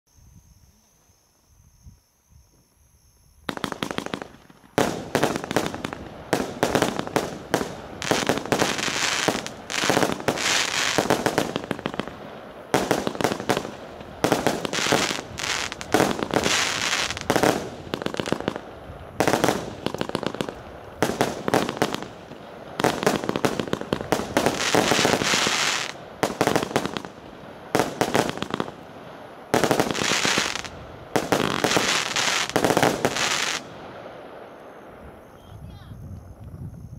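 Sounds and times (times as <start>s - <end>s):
firework launch pops and bursts: 3.4s - 34.3s
crackle of firework stars: 3.4s - 36.9s.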